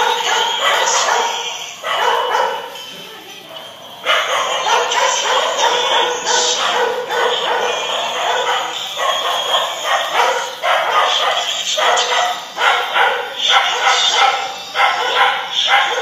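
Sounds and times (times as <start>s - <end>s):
dog barking: 0.0s - 16.0s.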